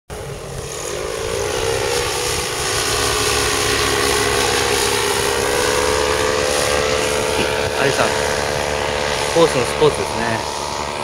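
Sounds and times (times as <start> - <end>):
paramotor engine and propeller: 0.1 - 11.0.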